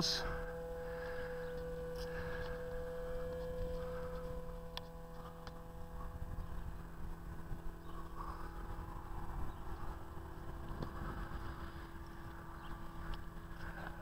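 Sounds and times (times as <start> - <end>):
electric door motor whirring: 0.0 - 14.0.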